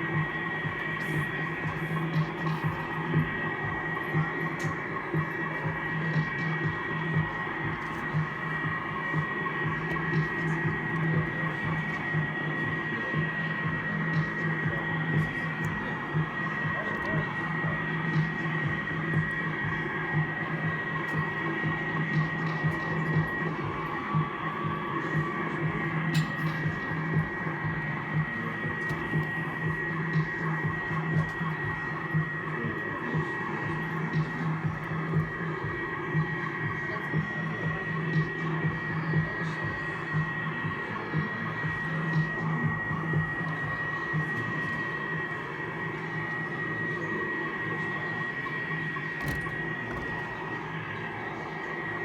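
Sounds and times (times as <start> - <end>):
pulsing low electronic drone: 0.0 - 52.0
steady high whine: 0.0 - 52.0.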